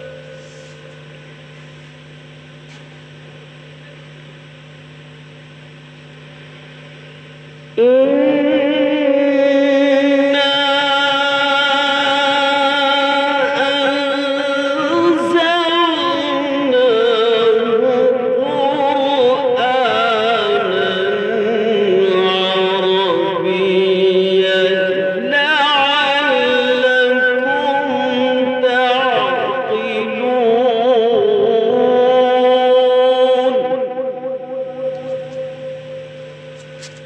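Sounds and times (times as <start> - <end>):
person singing a melodic chant: 0.0 - 1.0, 7.8 - 37.0
quiet steady hum: 0.0 - 37.0.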